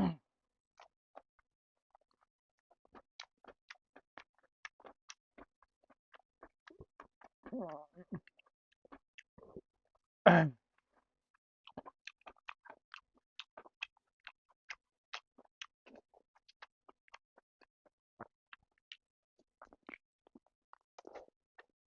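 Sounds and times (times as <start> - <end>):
chewing with mouth clicks: 0.8 - 10.1, 10.8 - 21.8.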